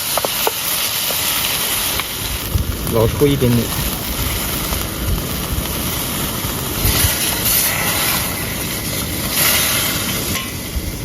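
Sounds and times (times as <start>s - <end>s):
eggplant sizzling in oil: 0.0s - 11.0s.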